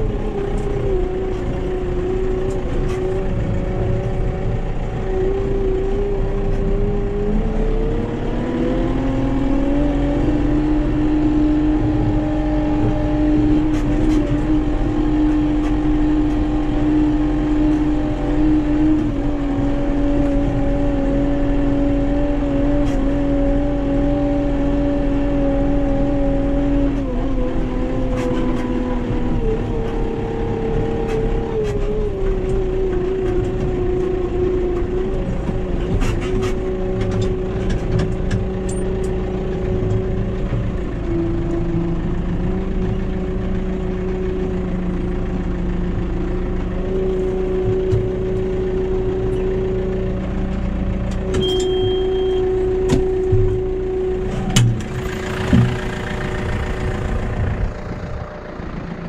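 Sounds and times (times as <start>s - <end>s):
tractor engine whining: 0.0s - 59.0s.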